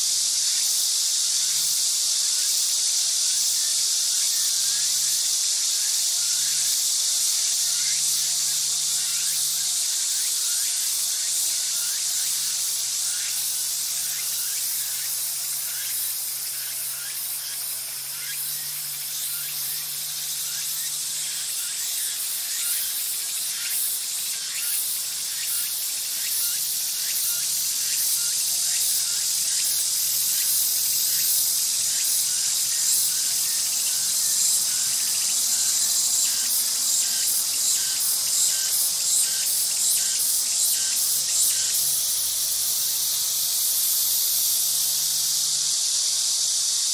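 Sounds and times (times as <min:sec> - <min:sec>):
shrill insect chorus: 0:00.0 - 0:46.9.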